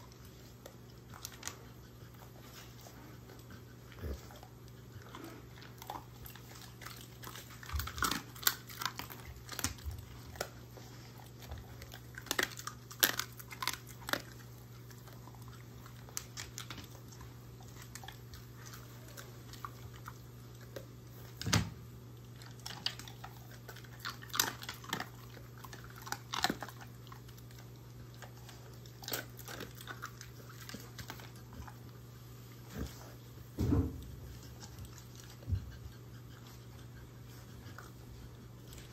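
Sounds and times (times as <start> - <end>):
dog chewing and crunching treats: 0.0 - 38.9.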